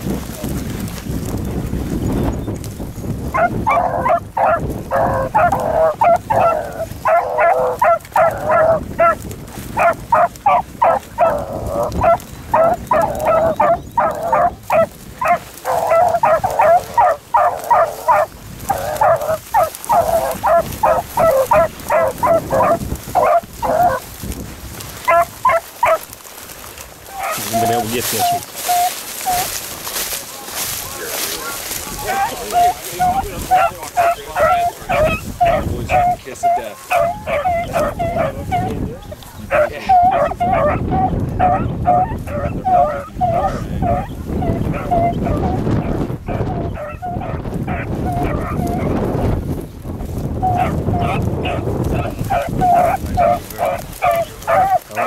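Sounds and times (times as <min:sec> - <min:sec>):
hounds baying: 0:03.2 - 0:24.2, 0:24.8 - 0:49.2, 0:50.1 - 0:55.0.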